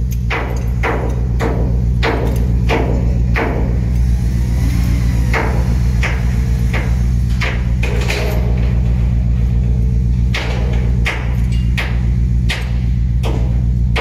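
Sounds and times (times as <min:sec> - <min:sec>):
hammer striking steel: 0:00.0 - 0:14.0
low machinery rumble: 0:00.0 - 0:14.0.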